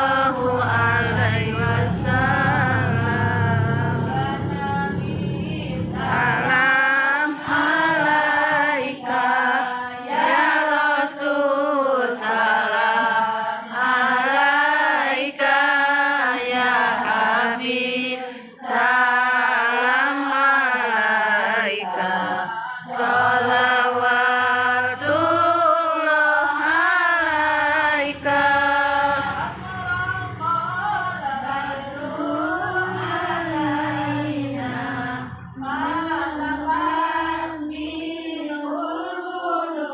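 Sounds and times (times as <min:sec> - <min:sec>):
group chanting devotional song: 0:00.0 - 0:39.9.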